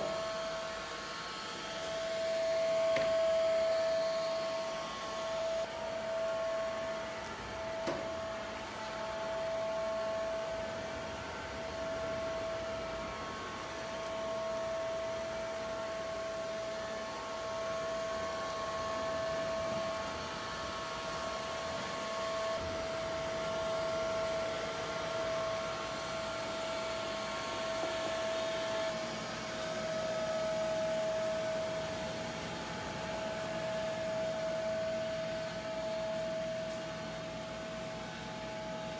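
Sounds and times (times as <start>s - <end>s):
robot vacuum motor whine: 0.0s - 38.9s.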